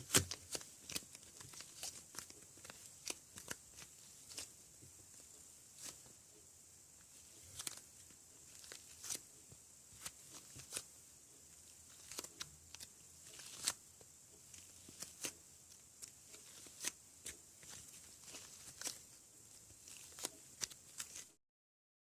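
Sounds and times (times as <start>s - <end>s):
hands handling modelling clay: 0.0s - 21.4s.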